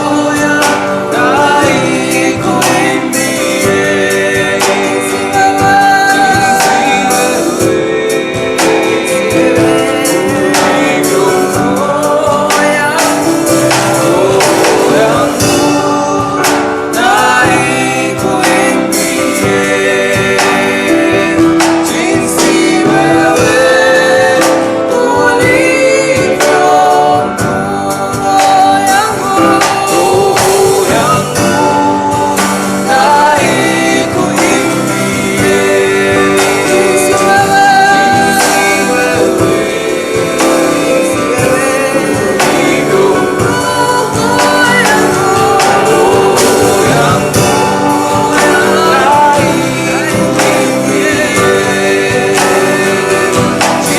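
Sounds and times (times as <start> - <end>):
gospel singers with band: 0.0 - 53.9.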